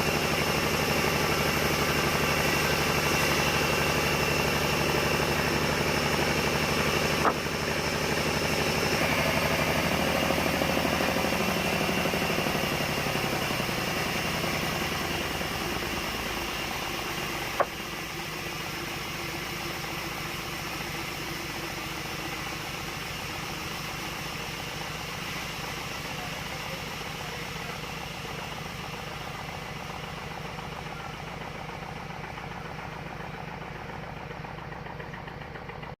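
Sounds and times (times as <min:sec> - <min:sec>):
engine idling with even chug: 0:00.0 - 0:36.0.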